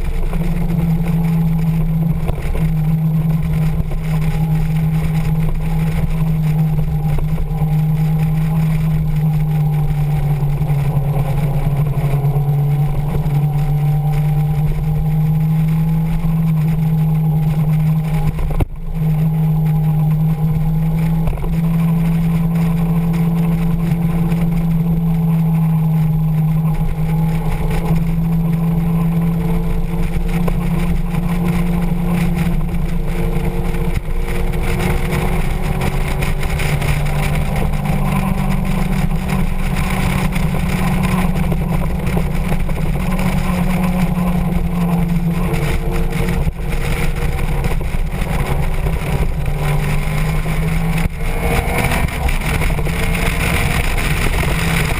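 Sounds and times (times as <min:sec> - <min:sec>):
constant rushing noise: 0:00.0 - 0:54.9
motorcycle engine running: 0:00.0 - 0:54.9.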